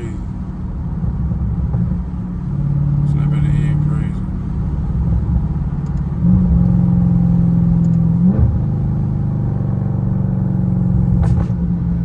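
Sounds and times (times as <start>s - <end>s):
deep car exhaust drone: 0.0s - 12.0s.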